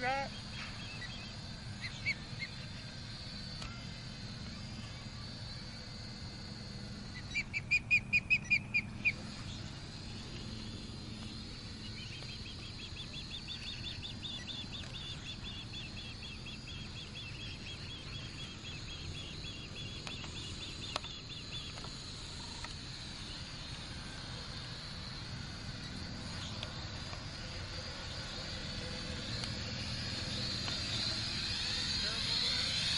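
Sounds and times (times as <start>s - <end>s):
osprey chirping: 0.0s - 32.9s.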